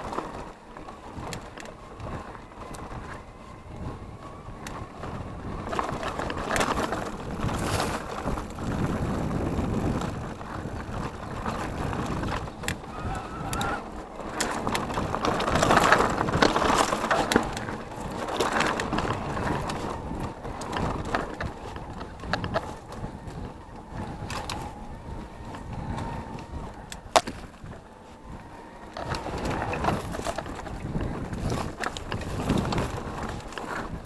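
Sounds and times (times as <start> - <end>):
bike rattling over bumps: 0.0 - 34.0
tyres crunching on gravel: 0.0 - 34.0.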